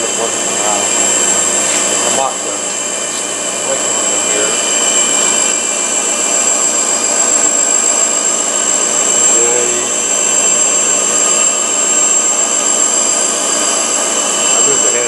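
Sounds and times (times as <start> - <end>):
tool grinder whining: 0.0 - 15.0.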